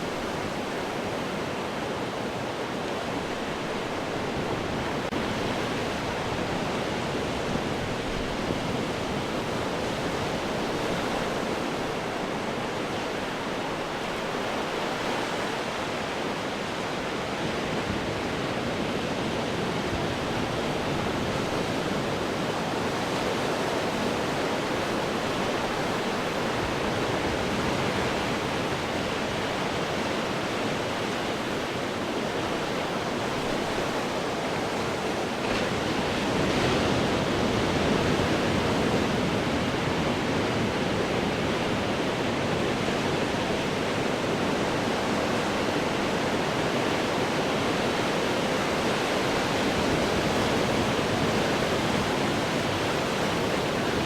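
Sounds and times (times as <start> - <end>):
ocean waves breaking on rocks: 0.0 - 54.0.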